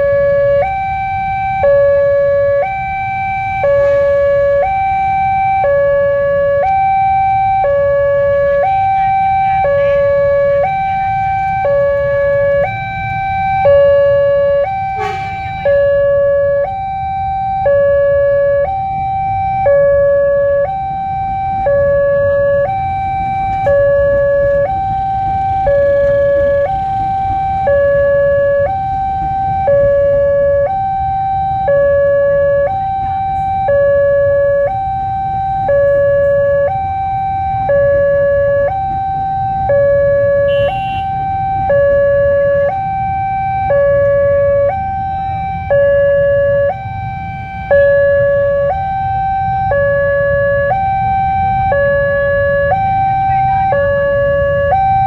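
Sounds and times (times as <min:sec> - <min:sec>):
two-tone crossing alarm: 0:00.0 - 0:55.0.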